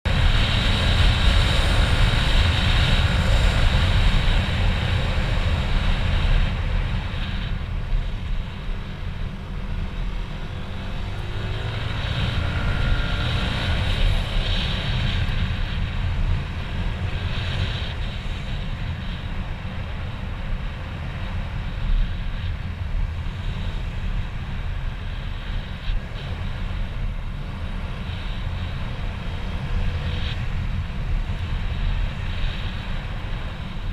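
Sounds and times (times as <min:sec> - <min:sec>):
wind and road rumble: 0:00.0 - 0:33.9.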